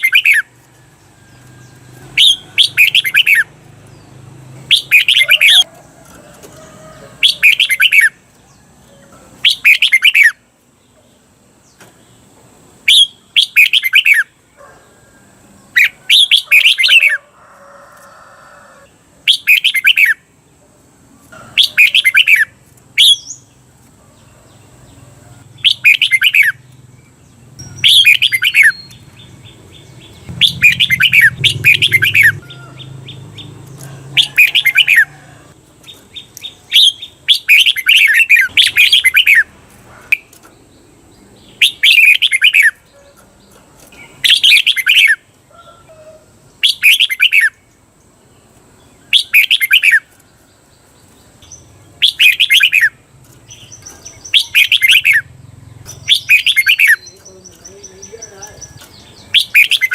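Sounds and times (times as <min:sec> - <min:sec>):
bird singing chattering phrases: 0:00.0 - 0:00.6, 0:01.7 - 0:05.7, 0:07.2 - 0:14.9, 0:15.7 - 0:17.2, 0:19.2 - 0:23.6, 0:24.4 - 0:45.3, 0:46.5 - 0:59.9.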